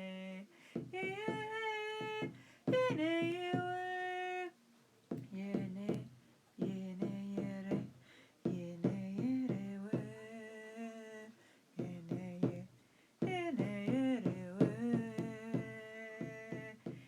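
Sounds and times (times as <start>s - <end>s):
woman singing wordless notes: 0.0s - 17.0s.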